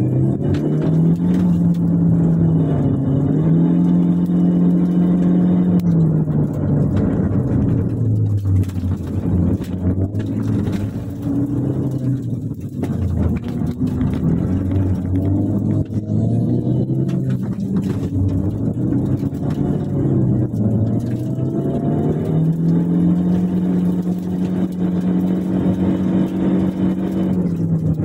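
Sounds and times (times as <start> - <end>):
car engine from inside cabin: 0.0 - 28.0.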